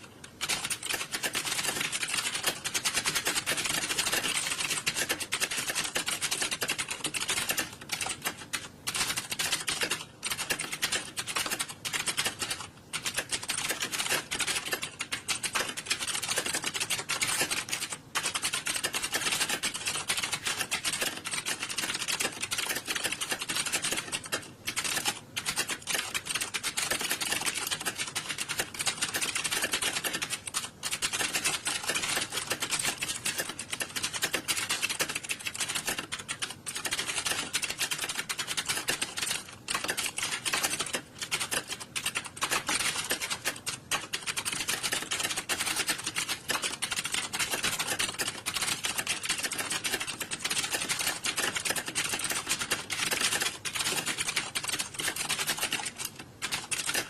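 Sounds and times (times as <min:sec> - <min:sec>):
many keyboards typing: 0:00.0 - 0:57.0.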